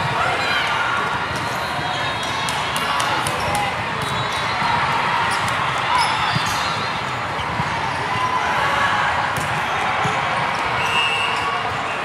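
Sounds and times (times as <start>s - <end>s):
crowd chatter in hall: 0.0s - 12.0s.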